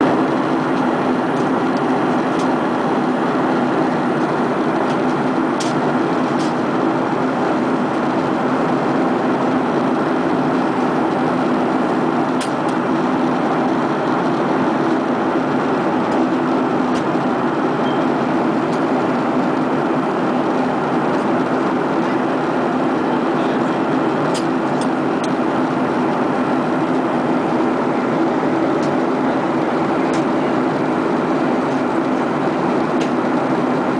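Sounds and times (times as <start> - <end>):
airliner cabin drone: 0.0 - 33.9.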